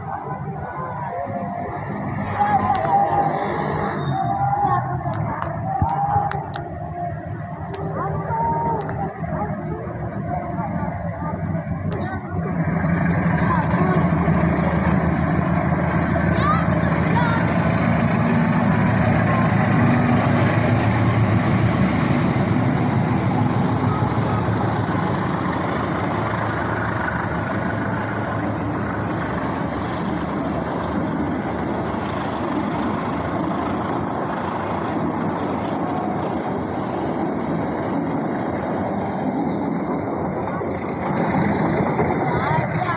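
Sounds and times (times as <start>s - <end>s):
train going by: 0.0s - 42.9s.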